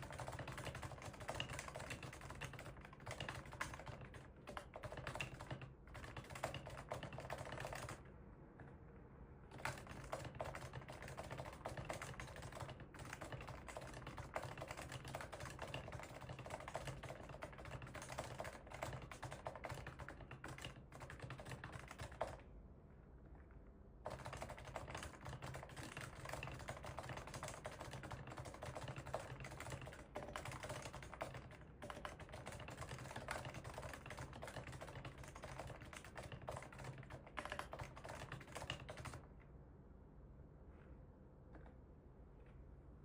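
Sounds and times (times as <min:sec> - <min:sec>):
fast keyboard typing: 0:00.0 - 0:08.7, 0:09.5 - 0:22.5, 0:24.0 - 0:39.3.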